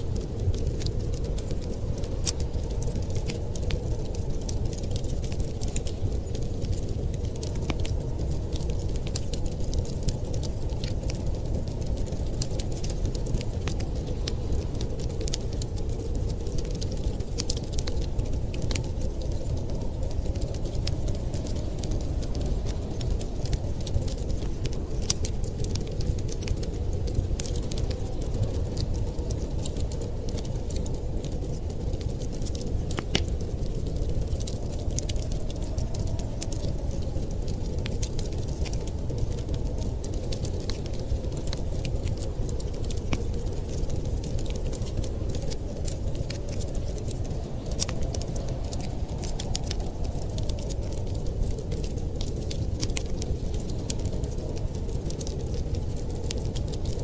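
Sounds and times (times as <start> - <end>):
storm wind rumbling: 0.0 - 57.0
wood fire crackling and popping: 0.0 - 57.0.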